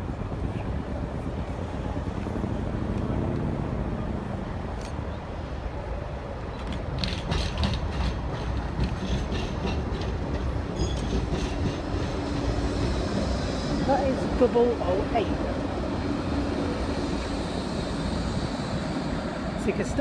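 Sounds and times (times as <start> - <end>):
tram passing with low rumble: 0.0 - 20.0.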